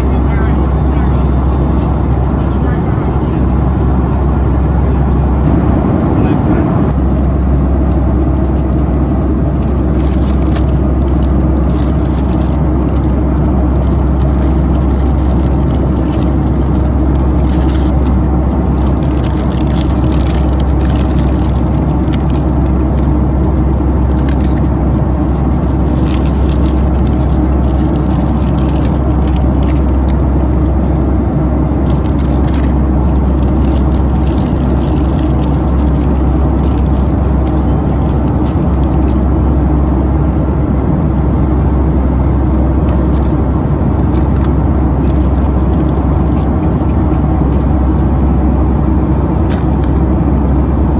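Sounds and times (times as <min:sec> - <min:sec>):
jet cabin engine drone: 0:00.0 - 0:50.9.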